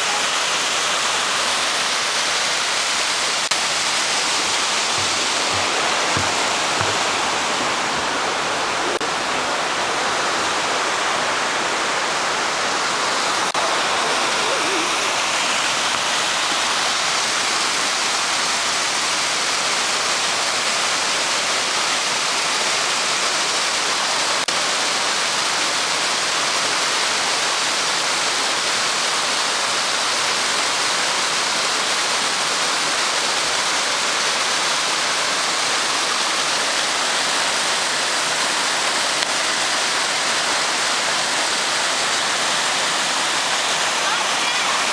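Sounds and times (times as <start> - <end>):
stream rushing over boulders: 0.0 - 44.9.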